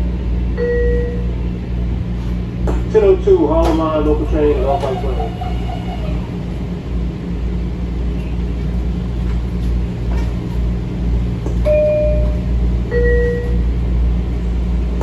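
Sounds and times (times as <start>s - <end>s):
railcar electrical hum: 0.0s - 15.0s.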